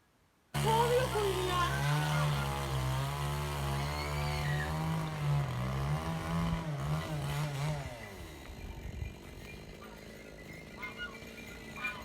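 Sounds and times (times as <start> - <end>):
small engine running: 0.6 - 12.0.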